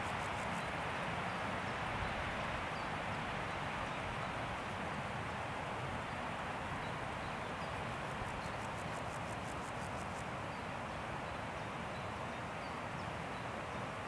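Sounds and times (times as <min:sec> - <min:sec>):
wind through trees: 0:00.0 - 0:14.0.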